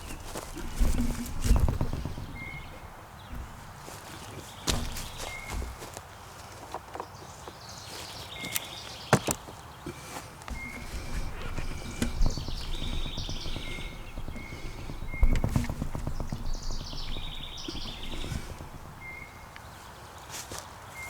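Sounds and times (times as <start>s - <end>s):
birds chirping and singing: 0.0s - 6.0s, 7.0s - 21.0s
footsteps: 0.0s - 7.0s, 8.4s - 20.7s.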